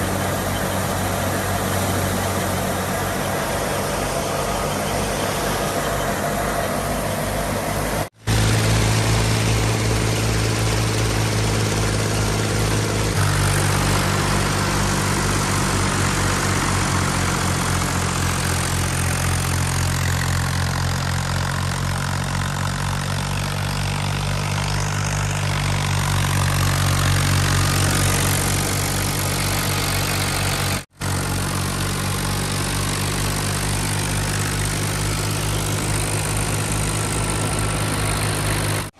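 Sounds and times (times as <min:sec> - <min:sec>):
thresher noise: 0:00.0 - 0:38.9
tractor diesel engine running: 0:00.0 - 0:38.9.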